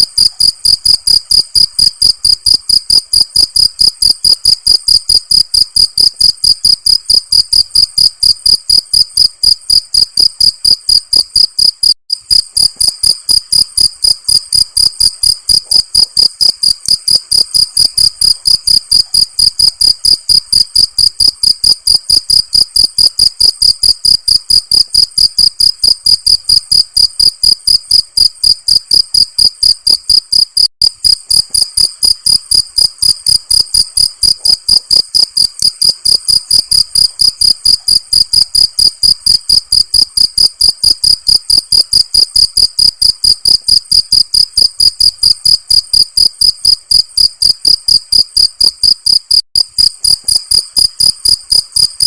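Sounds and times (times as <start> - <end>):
cricket chirping: 0.0 - 52.0.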